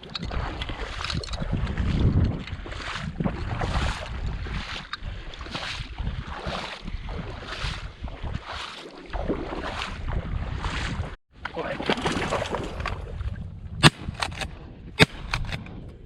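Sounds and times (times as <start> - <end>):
water sloshing: 0.0 - 13.1
wind buffeting microphone: 0.0 - 16.0.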